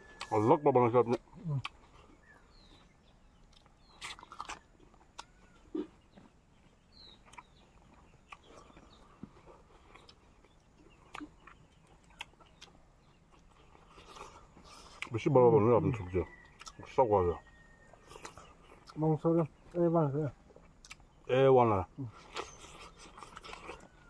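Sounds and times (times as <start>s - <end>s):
person chewing food: 0.0s - 0.5s, 1.1s - 15.2s, 15.9s - 16.8s, 17.5s - 19.7s, 20.4s - 21.3s, 22.0s - 24.0s.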